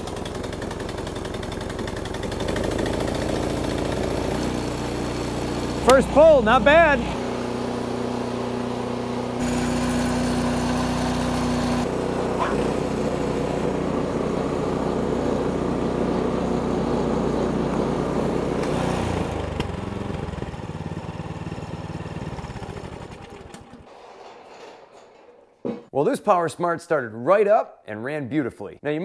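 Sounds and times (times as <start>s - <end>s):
snowblower engine running: 0.0s - 24.6s.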